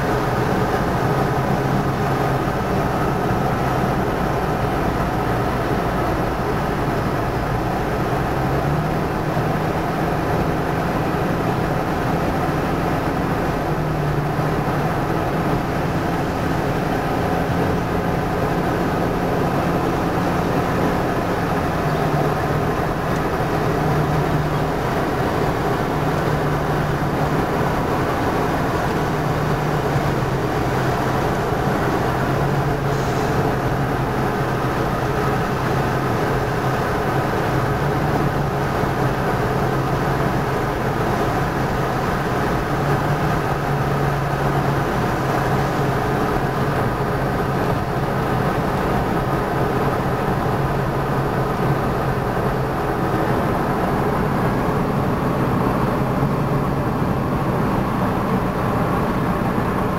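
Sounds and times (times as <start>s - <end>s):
car engine and tyre hum: 0.0s - 59.9s
driving noise hiss: 0.0s - 59.9s.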